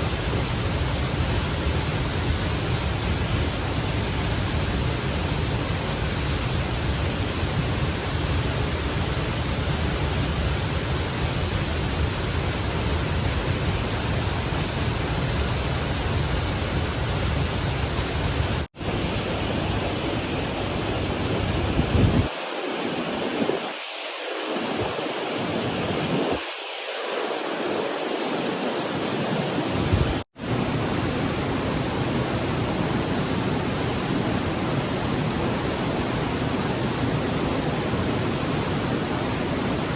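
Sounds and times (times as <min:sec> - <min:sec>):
stream water rushing: 0:01.6 - 0:39.9.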